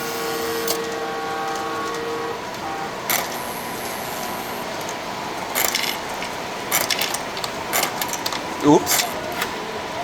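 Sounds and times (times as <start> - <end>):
model trains humming and rattling: 0.0 - 10.0.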